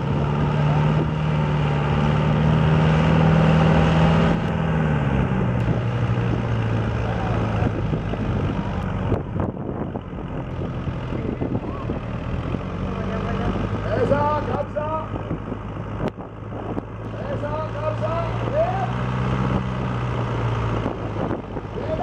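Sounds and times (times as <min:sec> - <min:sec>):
tractor diesel engine working hard: 0:00.0 - 0:22.0.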